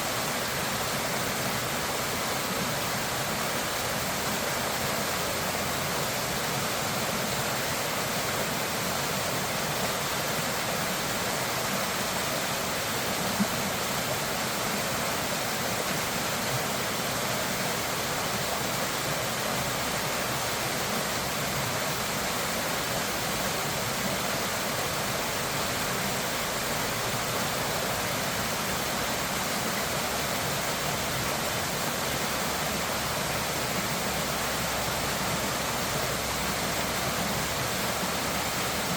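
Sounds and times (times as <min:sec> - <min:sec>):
rushing water roar: 0:00.0 - 0:38.9.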